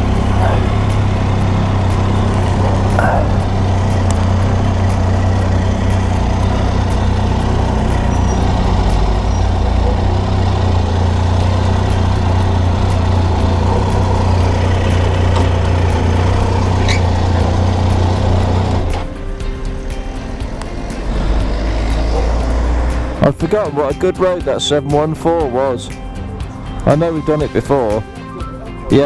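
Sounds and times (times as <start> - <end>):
motorcycle engine running: 0.0 - 28.2
road noise: 0.0 - 29.0.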